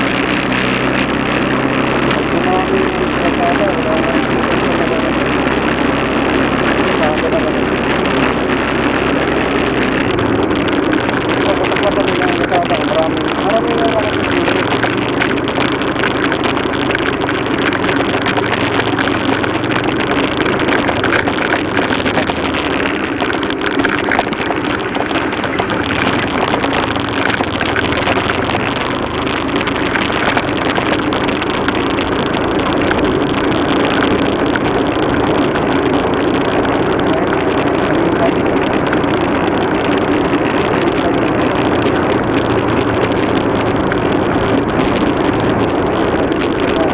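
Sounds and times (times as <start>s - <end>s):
dense rushing noise: 0.0s - 46.9s
motorcycle engine running: 0.0s - 46.9s.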